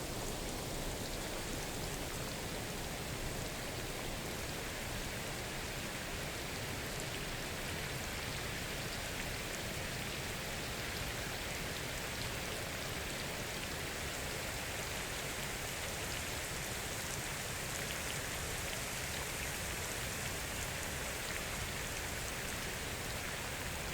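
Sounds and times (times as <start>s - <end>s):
rain falling on foliage: 0.0s - 23.9s.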